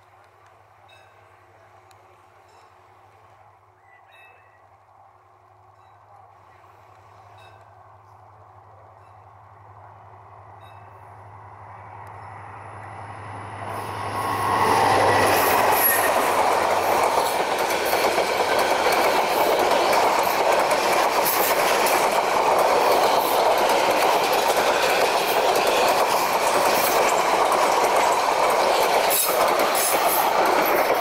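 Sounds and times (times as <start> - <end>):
diesel locomotive engine hum: 0.0 - 31.0
train wheels rumbling on rails: 0.0 - 31.0.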